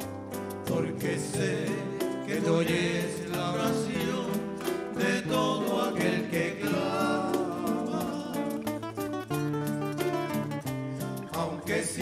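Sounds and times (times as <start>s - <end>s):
acoustic guitars playing: 0.0s - 12.0s.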